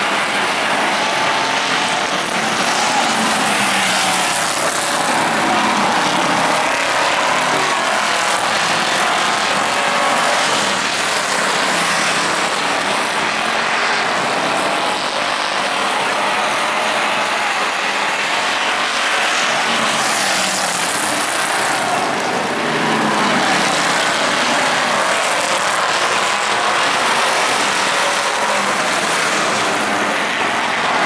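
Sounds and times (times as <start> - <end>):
race car engines passing: 0.0 - 31.0.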